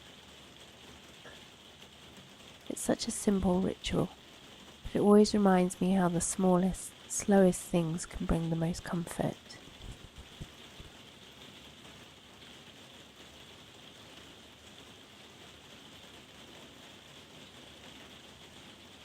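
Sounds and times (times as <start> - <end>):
pouring rain: 0.0 - 19.0.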